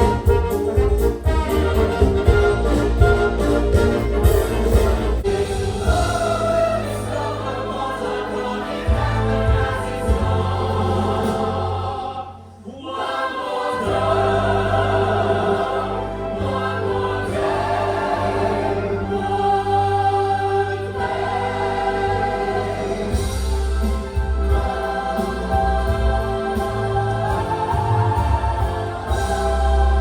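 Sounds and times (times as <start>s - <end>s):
choir singing held chords: 0.0s - 30.0s.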